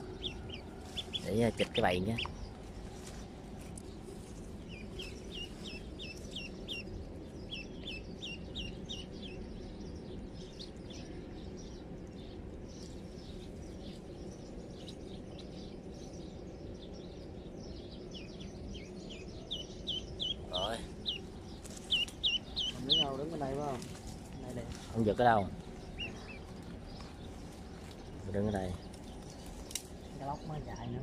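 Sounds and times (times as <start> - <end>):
low outdoor background noise: 0.0 - 31.0.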